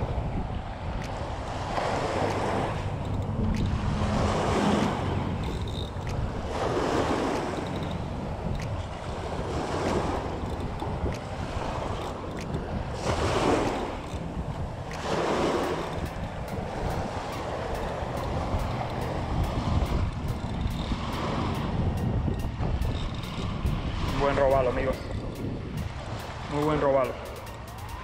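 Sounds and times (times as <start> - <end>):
small waves washing onto shore: 0.0 - 28.0
wind on microphone: 0.0 - 28.0.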